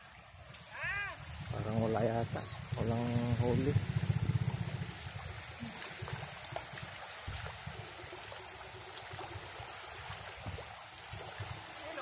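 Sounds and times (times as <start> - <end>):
faint water splashes: 0.0 - 12.0
small waves lapping on beach: 0.0 - 12.0.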